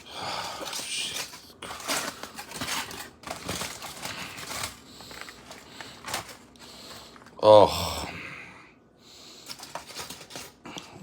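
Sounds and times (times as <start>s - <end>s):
aluminum foil crinkling and tearing: 0.0s - 7.4s, 9.3s - 11.0s.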